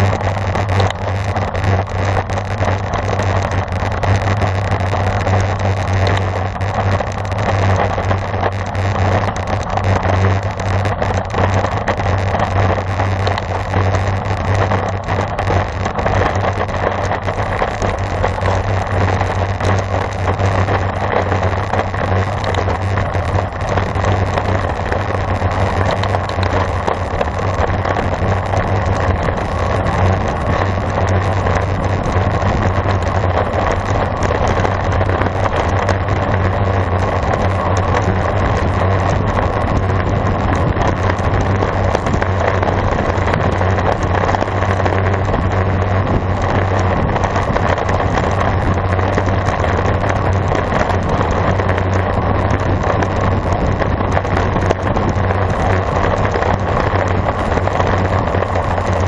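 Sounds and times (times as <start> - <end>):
bicycle road noise: 0.0 - 59.0
low rumble: 0.0 - 59.0
wind rush: 0.0 - 59.0.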